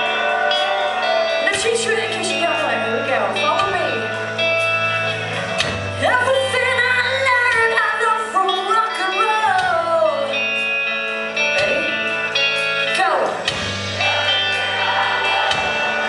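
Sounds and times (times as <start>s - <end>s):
bass guitar: 0.0s - 16.0s
electric guitar chords: 0.0s - 16.0s.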